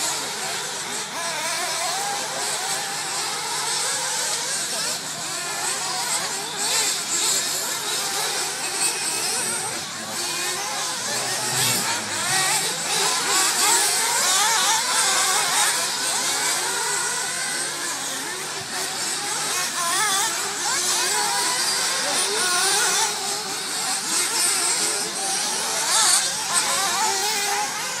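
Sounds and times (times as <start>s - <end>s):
small engines high-revving buzz: 0.0s - 28.0s.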